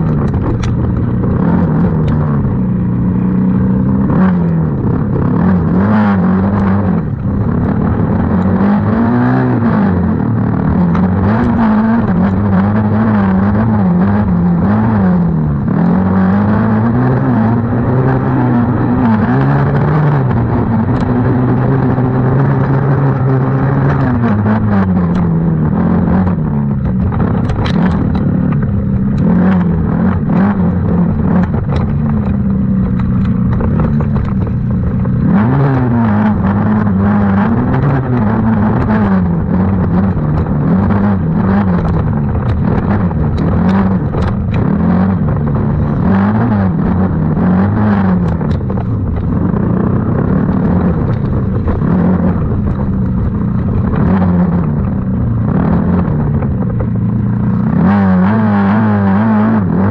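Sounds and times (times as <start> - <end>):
off-road motorbike engine revving: 0.0 - 59.9.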